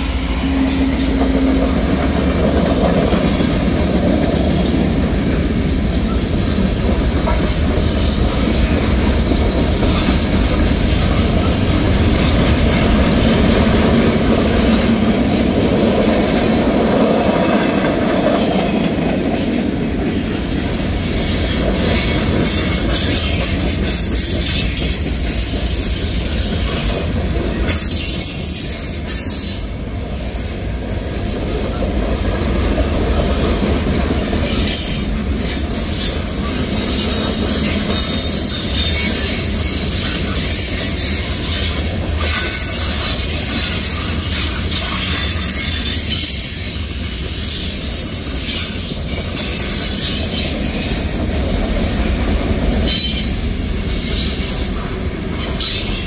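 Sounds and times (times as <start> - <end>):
freight train rumbling and rattling: 0.0 - 56.0
train wheel squeals: 0.0 - 56.0.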